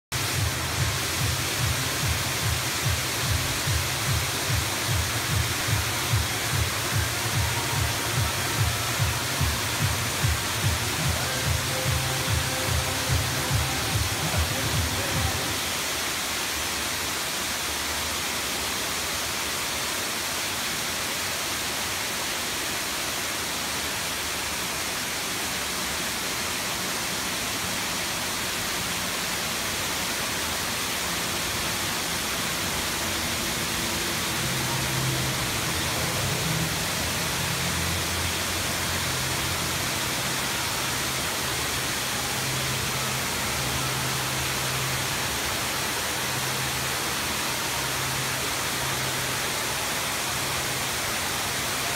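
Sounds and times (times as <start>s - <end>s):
waterfalls rushing: 0.1s - 51.9s.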